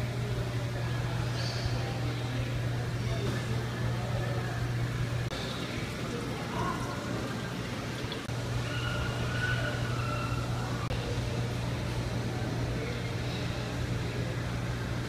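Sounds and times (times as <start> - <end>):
aquarium pumps and filters running: 0.0 - 15.0
steady low hum: 0.0 - 15.0.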